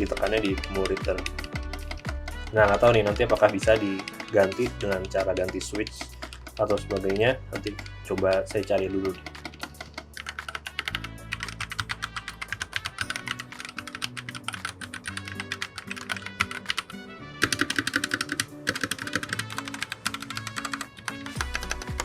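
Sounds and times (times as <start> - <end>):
background music: 0.0 - 22.0
mechanical keyboard typing: 0.0 - 22.0.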